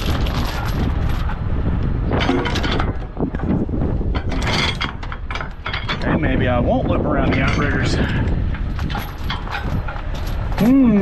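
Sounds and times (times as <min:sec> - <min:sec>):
chain rattling against metal: 0:00.0 - 0:11.0.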